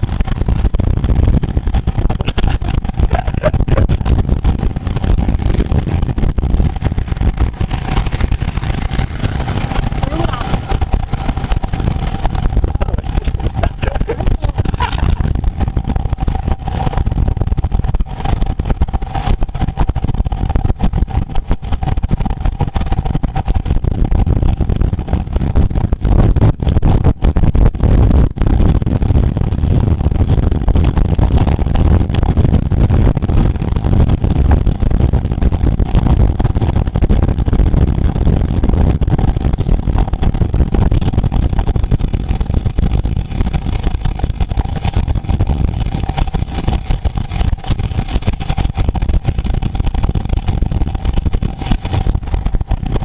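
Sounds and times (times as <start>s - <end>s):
steady whine: 0.0s - 53.0s
wind buffeting microphone: 0.0s - 53.0s.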